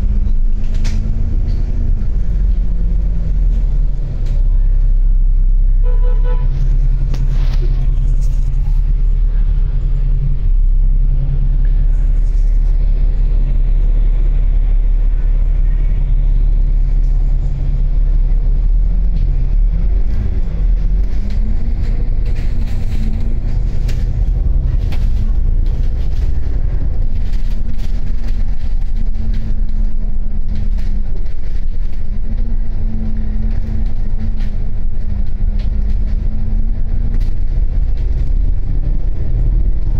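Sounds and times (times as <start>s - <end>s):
bus engine rumbling: 0.0s - 39.9s.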